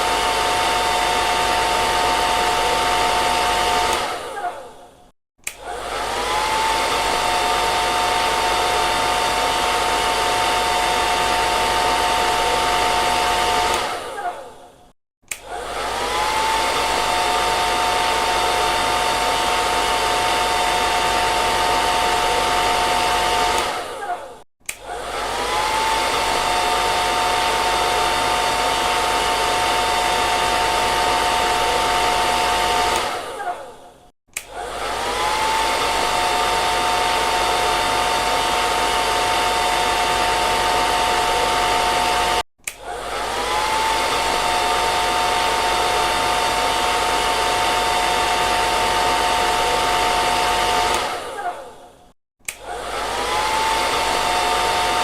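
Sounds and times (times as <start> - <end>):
hair dryer blowing: 0.0 - 14.7, 15.3 - 55.0.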